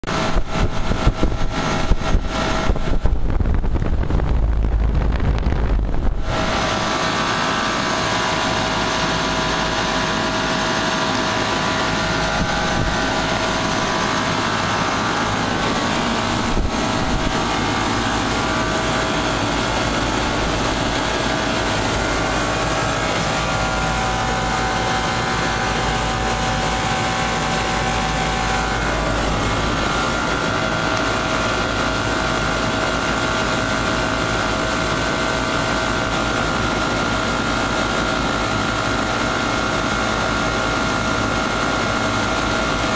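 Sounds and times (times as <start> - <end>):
air conditioner unit fans whirring: 0.0 - 42.9
steady whining tones: 0.1 - 42.6.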